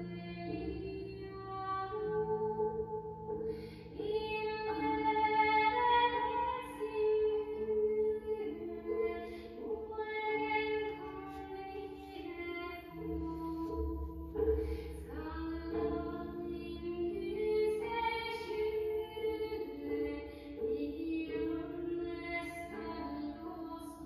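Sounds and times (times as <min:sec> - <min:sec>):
vocal music with accompaniment: 0:00.0 - 0:24.0.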